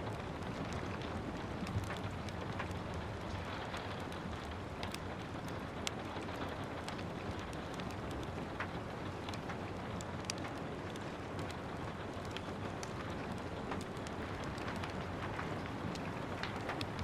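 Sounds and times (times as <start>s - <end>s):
rain patter: 0.0s - 17.0s
wood fire crackling: 0.0s - 17.0s.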